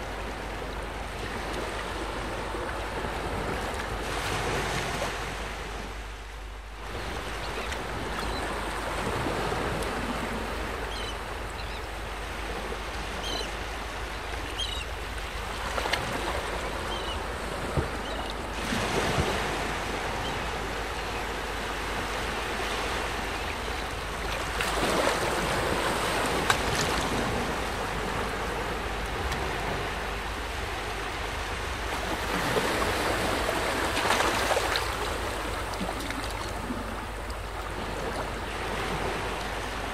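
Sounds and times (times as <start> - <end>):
water noise: 0.0 - 39.9.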